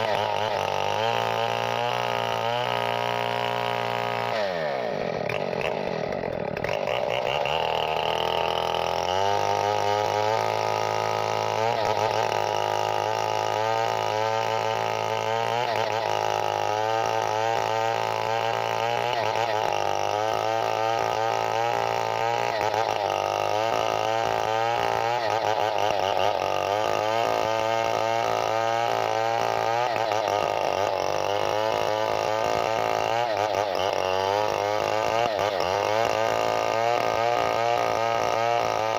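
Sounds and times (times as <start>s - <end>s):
chainsaw engine running: 0.0s - 38.9s.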